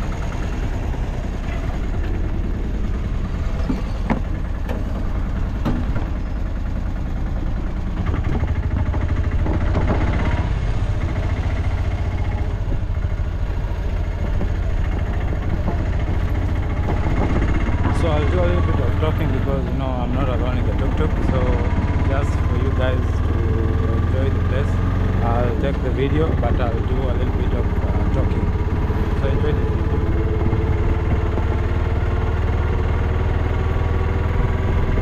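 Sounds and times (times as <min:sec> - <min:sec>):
auto-rickshaw engine running: 0:00.0 - 0:35.0.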